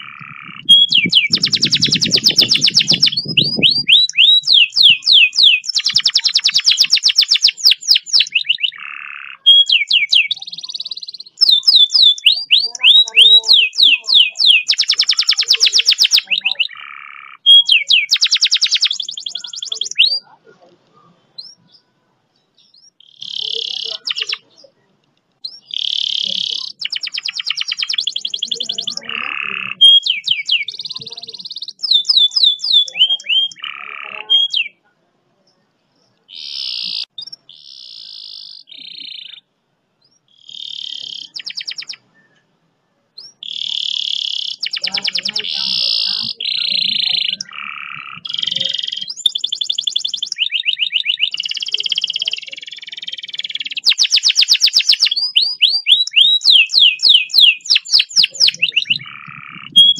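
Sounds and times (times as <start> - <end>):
canary singing trills: 0.0 - 42.5, 43.2 - 59.9.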